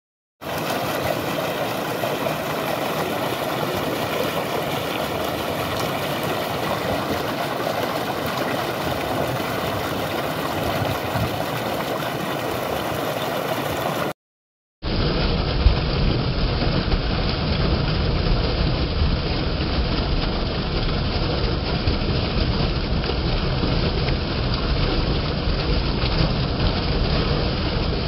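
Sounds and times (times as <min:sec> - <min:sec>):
water gushing into a tank: 0:00.4 - 0:14.2, 0:14.9 - 0:28.0.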